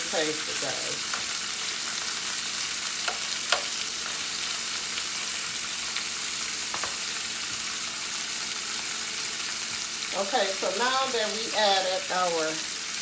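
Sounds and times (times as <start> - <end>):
chicken sizzling in hot fat: 0.0 - 13.0.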